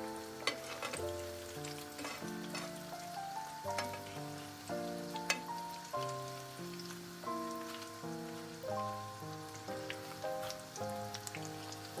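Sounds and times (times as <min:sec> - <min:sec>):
background music: 0:00.0 - 0:12.0
food frying in oil: 0:00.0 - 0:12.0
sharp oil crackles: 0:00.0 - 0:12.0.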